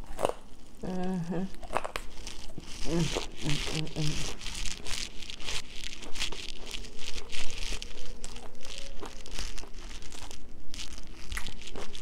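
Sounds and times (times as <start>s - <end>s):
crunchy chewing: 0.0s - 12.0s
faint steady hum: 0.0s - 12.0s.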